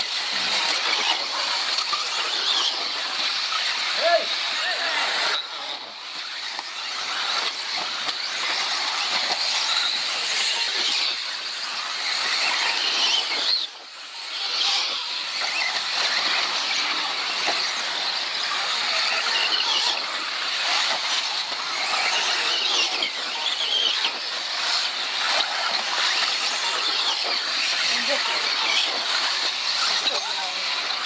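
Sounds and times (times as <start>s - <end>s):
high motor whine: 0.0s - 31.0s.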